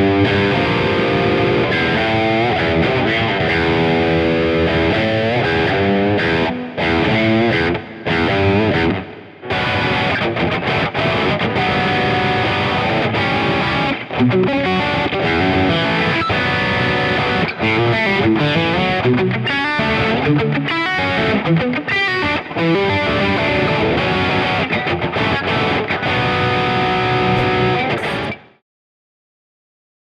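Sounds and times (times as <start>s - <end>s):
distorted electric guitar: 0.0s - 28.6s.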